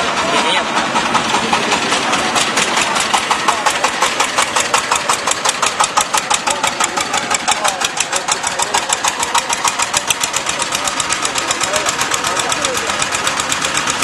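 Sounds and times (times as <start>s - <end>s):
engine running with rapid knock: 0.0s - 14.0s.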